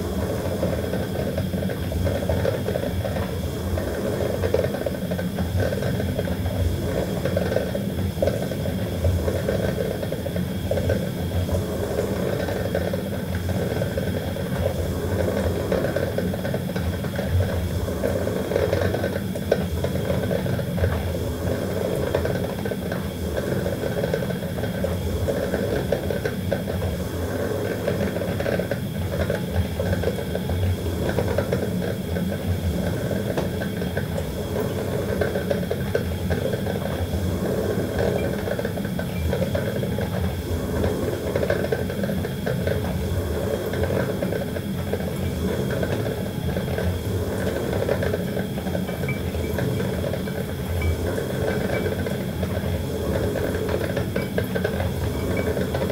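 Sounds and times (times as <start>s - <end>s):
coffee maker running: 0.0s - 55.9s.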